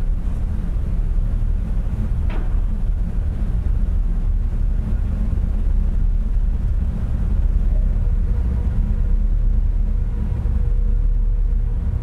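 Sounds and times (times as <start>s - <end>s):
propellers churning water: 0.0s - 12.0s
ship diesel engines rumbling: 0.0s - 12.0s.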